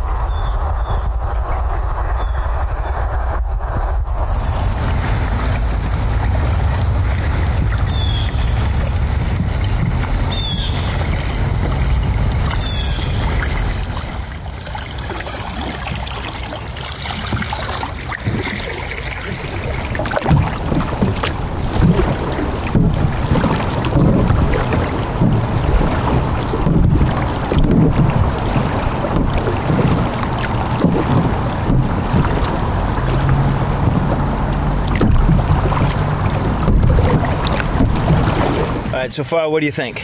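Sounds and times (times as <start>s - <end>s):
wind rumbling on microphone: 0.0s - 39.1s
paddle splashing in water: 4.2s - 39.9s.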